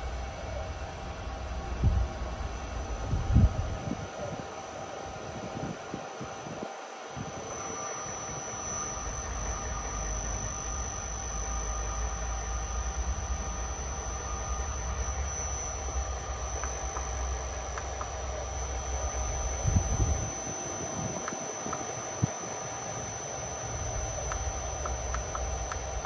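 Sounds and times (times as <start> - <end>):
high-pitched drive whine: 0.0 - 26.0
low motor hum: 0.0 - 26.0.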